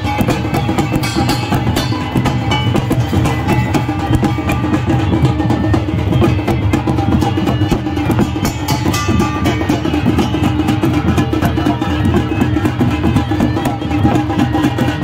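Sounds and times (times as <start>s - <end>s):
fast festival drumming: 0.0s - 15.0s.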